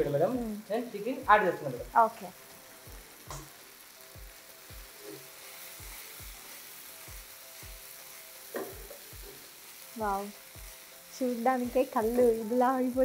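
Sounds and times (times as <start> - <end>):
background music with soft beat: 0.0 - 13.0
chicken sizzling in a frying pan: 0.0 - 13.0.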